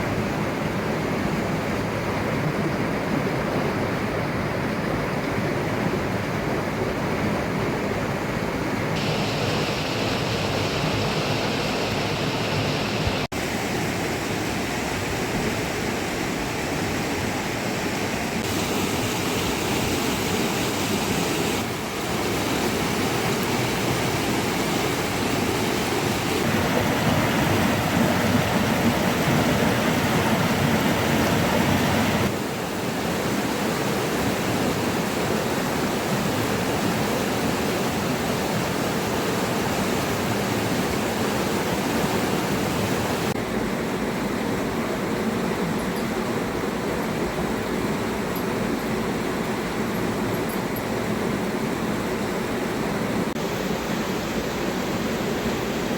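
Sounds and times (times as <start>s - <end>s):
water rushing: 0.0s - 55.9s.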